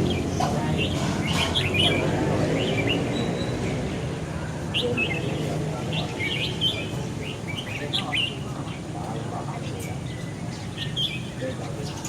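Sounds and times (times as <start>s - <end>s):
bulbuls chirping: 0.0s - 12.0s.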